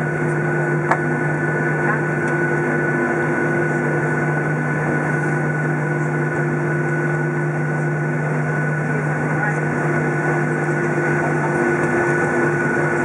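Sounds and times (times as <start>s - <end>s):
jet engines humming in cabin: 0.0s - 13.0s.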